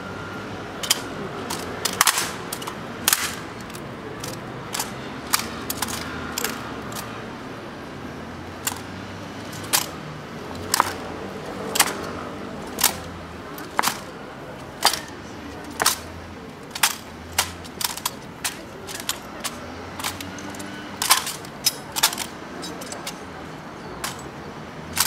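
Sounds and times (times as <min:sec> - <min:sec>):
rifles clacking in hands: 0:00.8 - 0:07.1, 0:08.6 - 0:23.3, 0:24.0 - 0:25.0.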